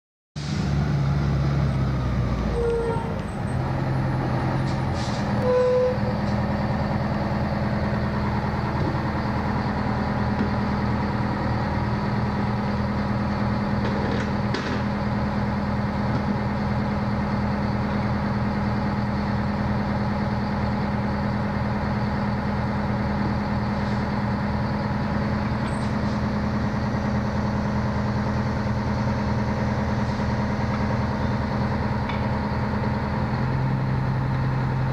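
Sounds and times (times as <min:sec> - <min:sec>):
diesel engine idling: 0:00.4 - 0:34.9.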